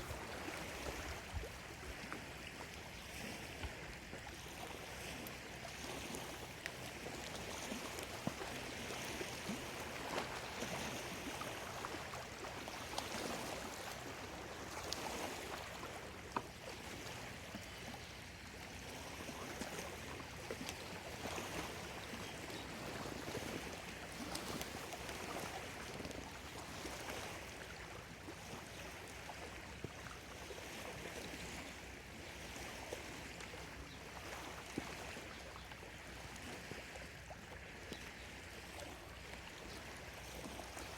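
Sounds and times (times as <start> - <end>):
small waves lapping shore: 0.0 - 40.9.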